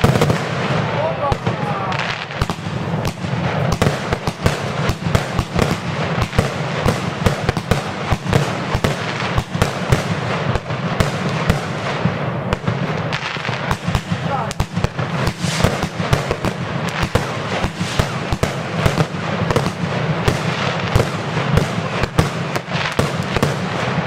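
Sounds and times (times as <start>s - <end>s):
firework cake bangs and crackling: 0.0s - 24.0s.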